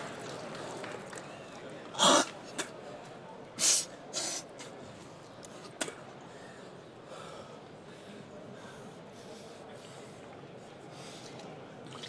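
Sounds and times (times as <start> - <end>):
arena background noise: 0.0 - 12.0.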